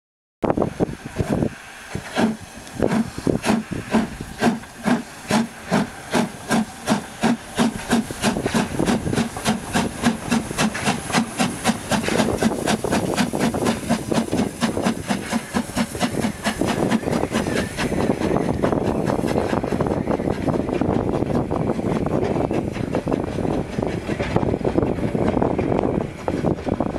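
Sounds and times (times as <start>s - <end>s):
rush of steam: 0.5s - 26.9s
steam locomotive exhaust chuffs: 0.5s - 26.9s.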